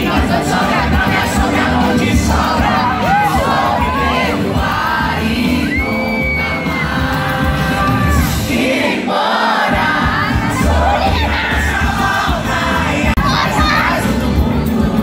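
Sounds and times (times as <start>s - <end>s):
amplified live band music: 0.0s - 15.0s
crowd singing along and shouting: 0.0s - 15.0s.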